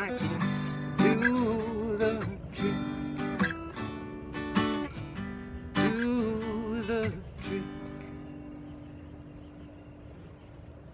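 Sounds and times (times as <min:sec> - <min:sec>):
acoustic guitar strumming: 0:00.0 - 0:09.8.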